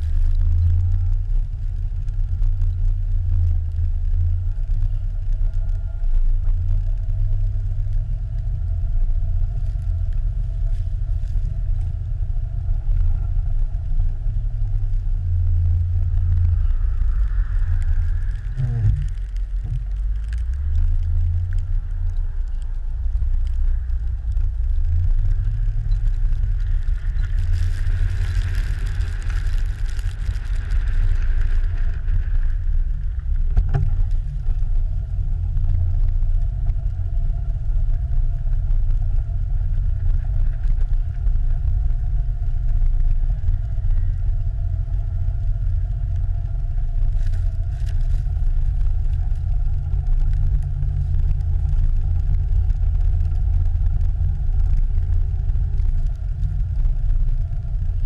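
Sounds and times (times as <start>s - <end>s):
engine and road rumble: 0.0s - 58.0s.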